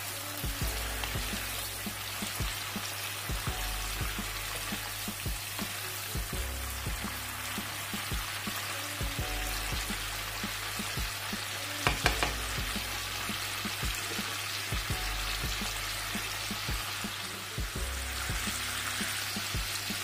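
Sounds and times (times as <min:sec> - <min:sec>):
chicken frying in oil: 0:00.0 - 0:20.0.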